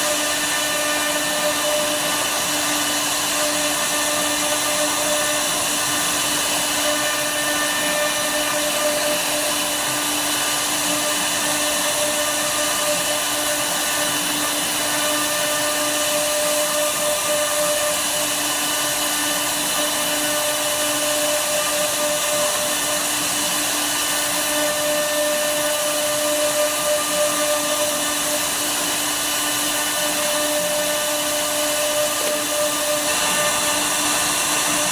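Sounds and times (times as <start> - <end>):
router spindle high-pitched whine: 0.0 - 34.9.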